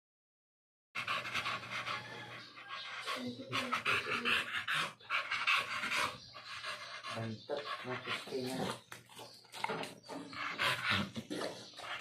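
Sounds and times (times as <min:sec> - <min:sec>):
dog panting: 0:01.0 - 0:12.0.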